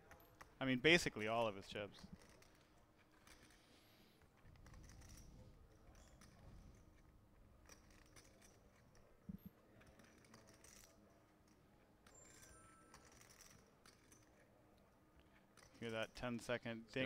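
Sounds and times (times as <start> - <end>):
clay poker chips clicking: 0.0 - 14.5.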